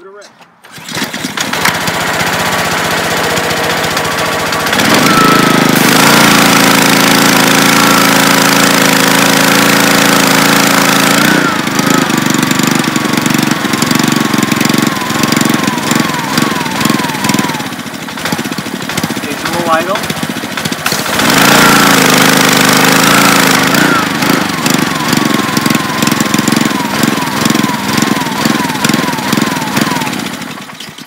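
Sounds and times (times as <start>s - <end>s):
pressure washer engine running: 0.7s - 31.0s.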